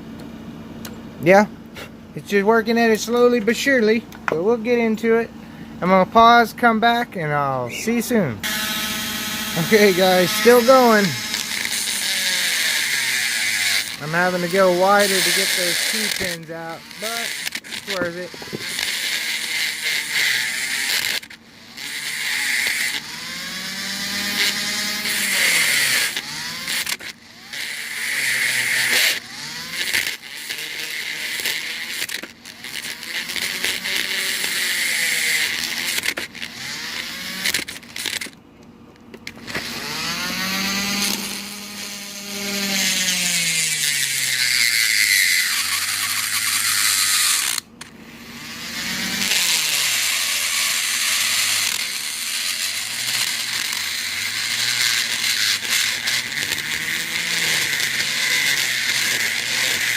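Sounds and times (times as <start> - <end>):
electric drill boring into lock: 8.4 - 38.4, 39.2 - 59.9.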